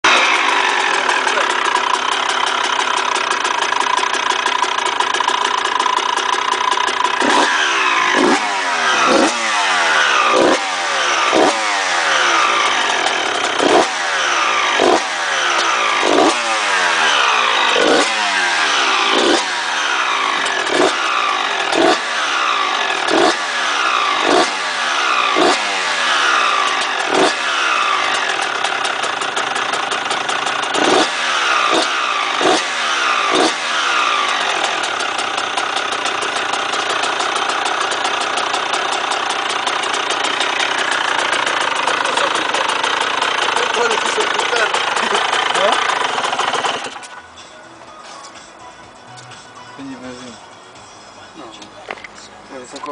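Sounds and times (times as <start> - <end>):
dirt bike engine revving: 0.0 - 47.2.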